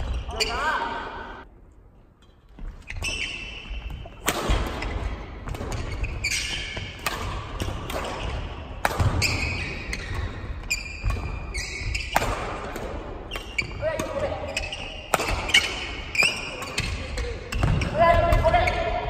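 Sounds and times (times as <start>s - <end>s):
sneakers squeaking: 0.0s - 1.4s, 2.2s - 19.0s
rackets hitting shuttlecock: 3.0s - 19.0s.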